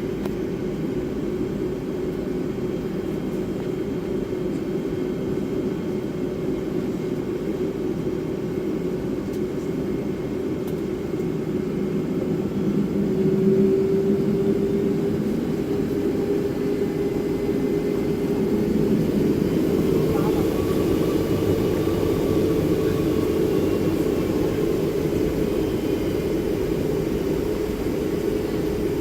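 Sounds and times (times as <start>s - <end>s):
jet engines humming at low power: 0.0s - 29.0s.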